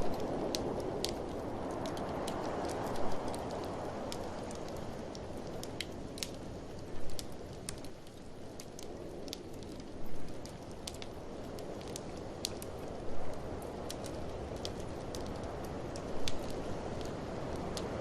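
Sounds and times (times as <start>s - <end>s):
blizzard wind rushing: 0.0s - 18.0s
wood fire crackling: 0.0s - 18.0s.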